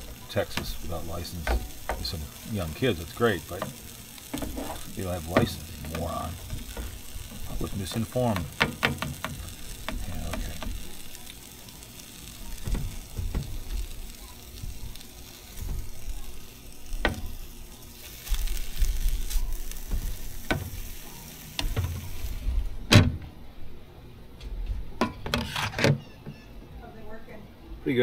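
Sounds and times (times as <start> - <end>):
food sizzling on griddle: 0.0 - 22.9.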